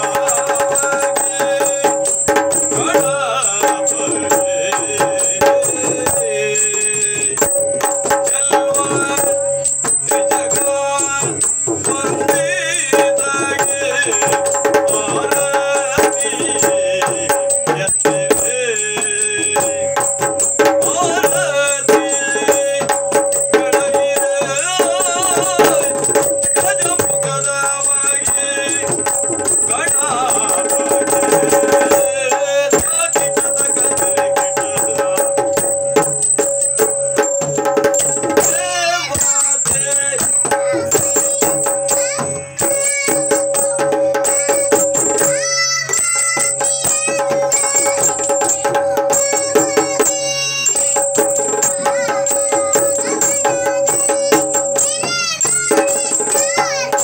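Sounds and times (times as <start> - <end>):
drums playing: 0.0 - 57.0
girl and man singing duet: 0.0 - 57.0.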